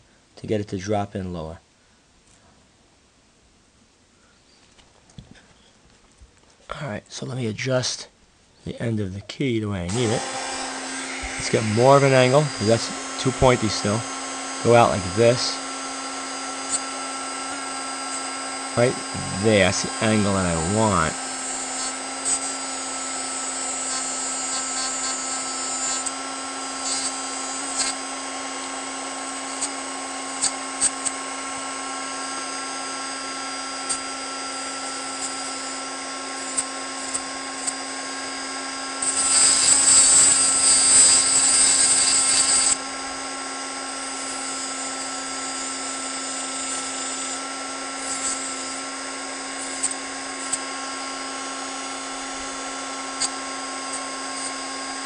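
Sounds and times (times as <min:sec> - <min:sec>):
rotary tool whining: 0:09.9 - 0:55.0.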